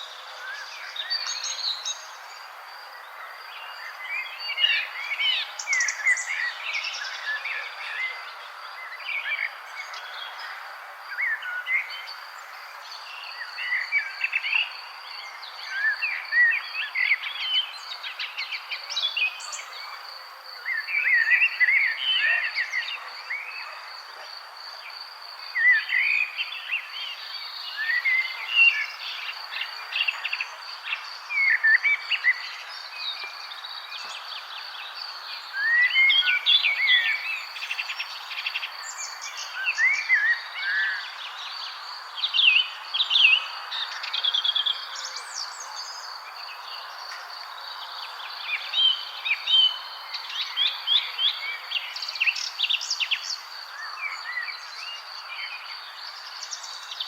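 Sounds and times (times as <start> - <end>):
background hiss: 0.0 - 57.0
songbirds chirping: 0.0 - 57.0.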